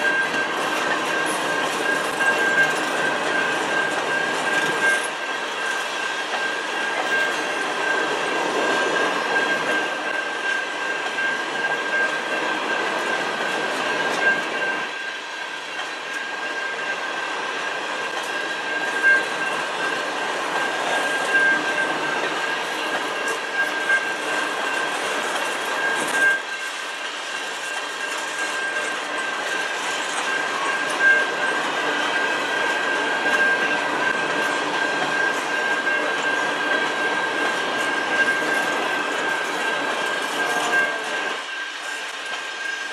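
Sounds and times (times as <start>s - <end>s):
steady high-pitched tone: 0.0s - 42.9s
steel wheels clattering on rail: 0.0s - 42.9s.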